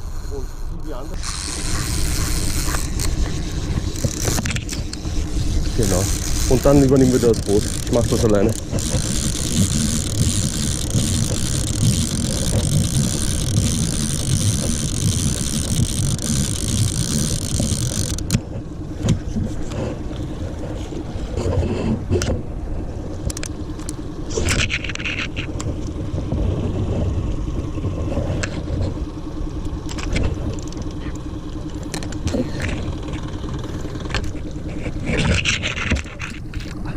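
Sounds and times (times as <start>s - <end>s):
wind and water hiss: 0.0s - 32.3s
boat motor idling: 0.0s - 36.9s.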